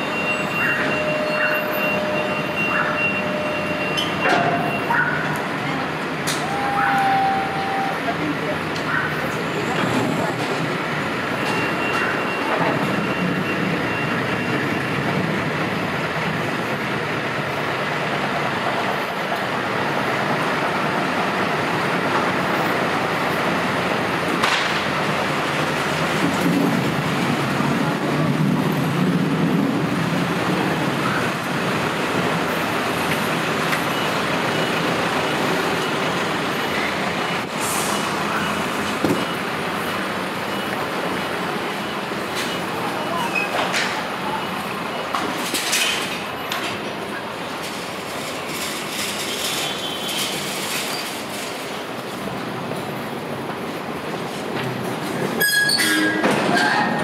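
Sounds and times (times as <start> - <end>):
heavy vehicles passing: 0.0 - 57.0
road noise and vehicle engines: 0.0 - 57.0.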